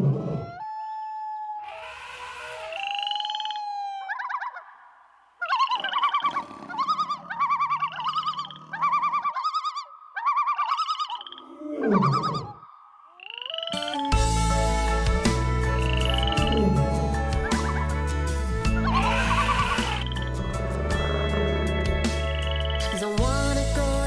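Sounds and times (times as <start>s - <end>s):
sweeping animal call: 0.0s - 18.0s, 18.7s - 22.8s
animal warbling trills: 1.6s - 4.8s, 5.4s - 18.0s, 18.7s - 23.0s.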